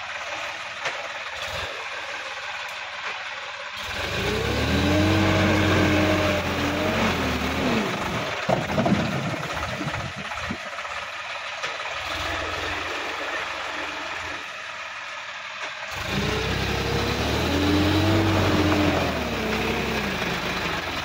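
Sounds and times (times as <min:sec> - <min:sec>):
tractor engine revving: 0:00.0 - 0:21.0.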